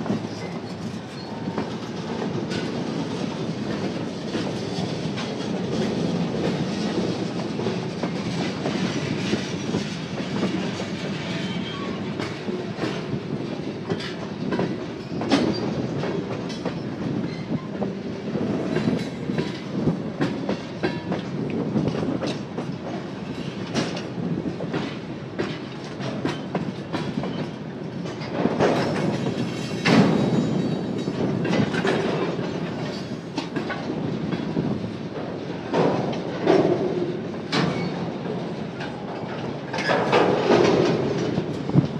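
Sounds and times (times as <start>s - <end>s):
freight train rumbling: 0.0s - 41.9s
wheels clicking over rail joints: 0.0s - 41.9s.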